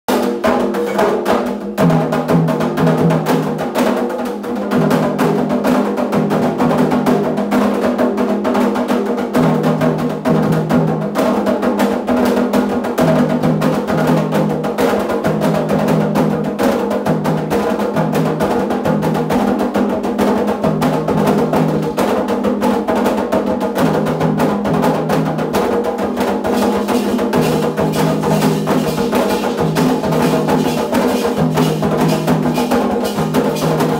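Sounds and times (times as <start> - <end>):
hand drums beating fast: 0.1 - 33.9.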